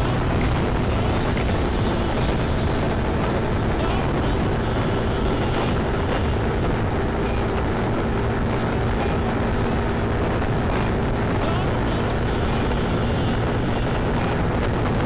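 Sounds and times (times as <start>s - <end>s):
scooter engine drone: 0.0s - 15.0s
wind and road noise: 0.0s - 15.0s.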